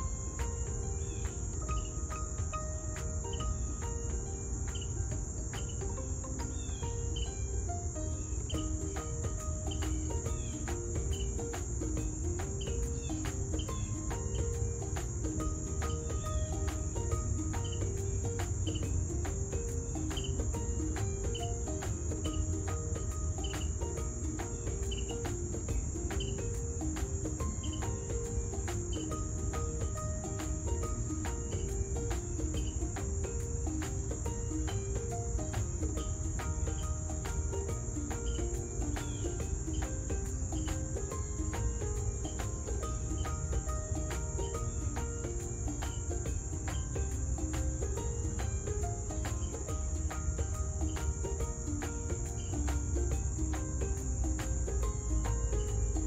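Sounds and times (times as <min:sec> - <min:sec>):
insect chorus: 0:00.0 - 0:56.0
soft background music: 0:00.0 - 0:56.0.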